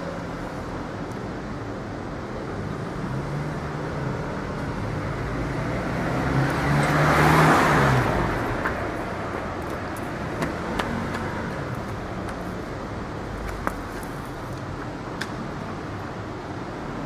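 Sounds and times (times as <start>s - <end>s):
car passing: 2.4s - 17.0s.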